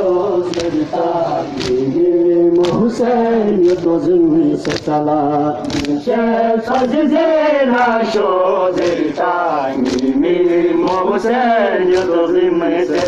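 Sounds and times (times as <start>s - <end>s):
men chanting a lament: 0.0s - 13.0s
sharp rhythmic strikes: 0.0s - 13.0s.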